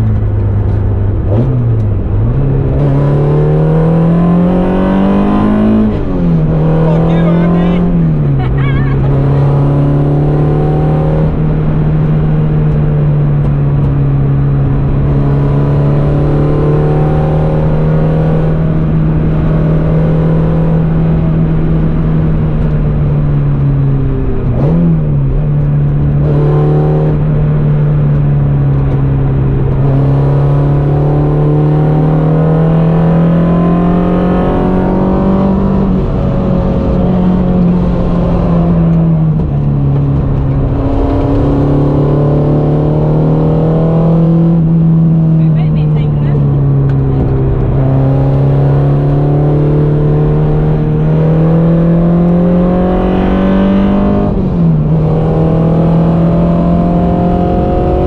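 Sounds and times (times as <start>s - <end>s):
car engine at high revs: 0.0s - 58.0s
road and wind noise: 0.0s - 58.0s.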